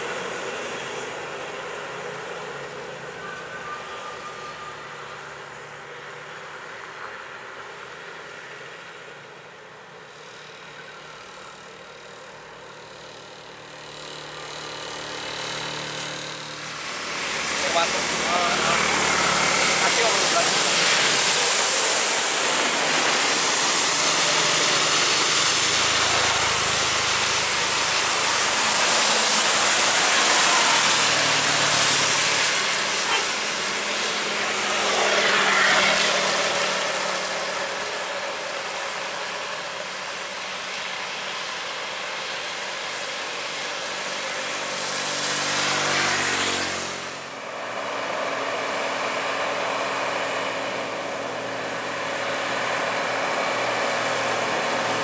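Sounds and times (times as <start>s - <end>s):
trucks passing: 0.0s - 55.0s
tyres hissing on wet road: 0.0s - 55.0s
motorcycles passing: 10.1s - 55.0s.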